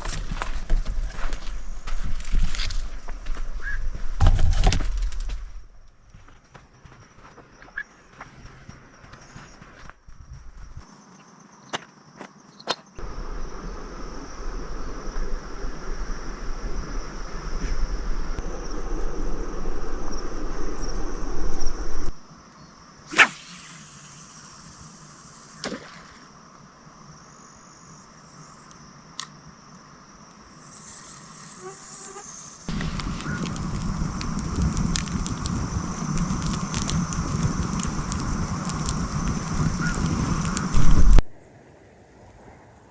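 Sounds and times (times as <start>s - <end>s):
insects trilling: 0.0s - 41.2s.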